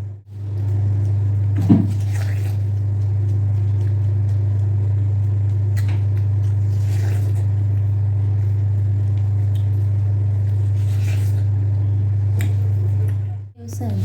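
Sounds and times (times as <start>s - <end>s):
loud steady low hum: 0.0s - 14.0s.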